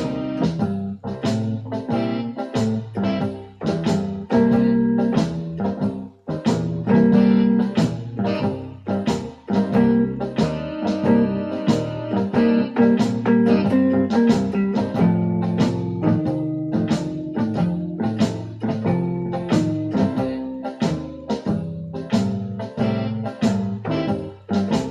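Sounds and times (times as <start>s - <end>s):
electronic keyboard blues chords: 0.0s - 24.9s
steady beat: 0.0s - 24.9s.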